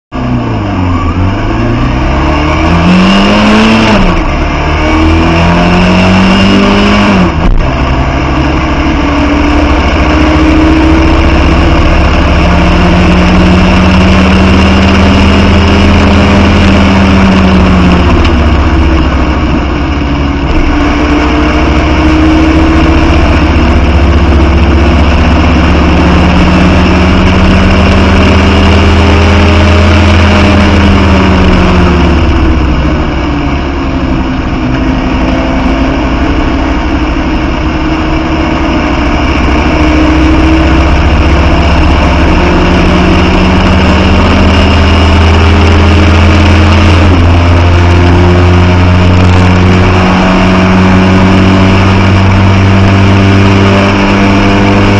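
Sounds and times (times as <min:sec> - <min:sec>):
car engine revving: 0:00.1 - 0:54.9.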